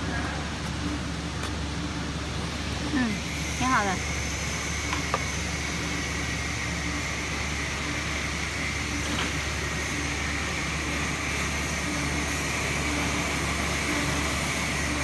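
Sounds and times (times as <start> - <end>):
factory machinery hum and hiss: 0.0 - 15.0
low machine whine: 0.0 - 15.0.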